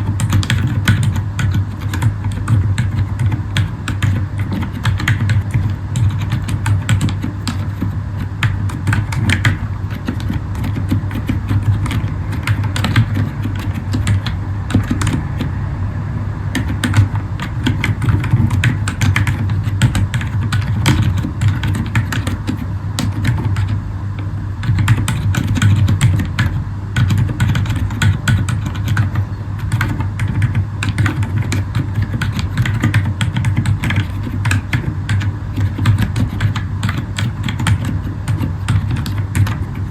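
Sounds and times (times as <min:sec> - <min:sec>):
muted keyboard keystrokes: 0:00.0 - 0:15.5, 0:16.5 - 0:39.9.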